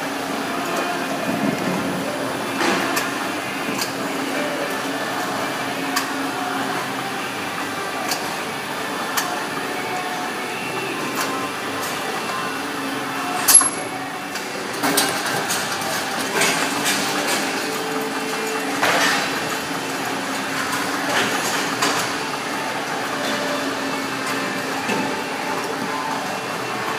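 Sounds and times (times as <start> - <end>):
conveyor machine hum: 0.0 - 26.9.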